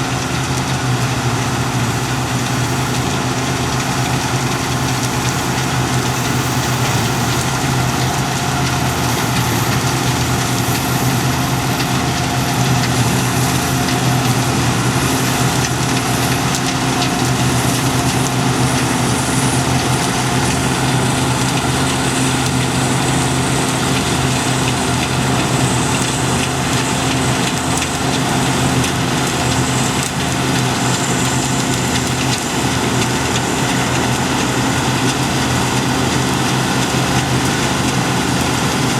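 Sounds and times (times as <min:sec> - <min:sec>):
combine harvester engine drone: 0:00.0 - 0:38.9
machinery noise: 0:00.0 - 0:38.9.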